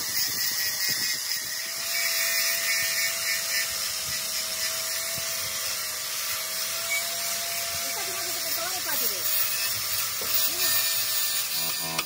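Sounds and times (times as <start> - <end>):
angle grinder whining: 0.0 - 12.0.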